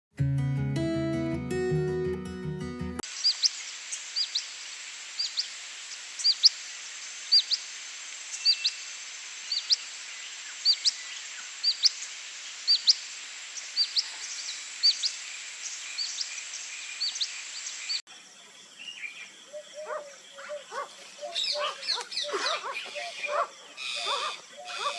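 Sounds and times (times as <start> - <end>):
background hiss: 3.0 - 24.9.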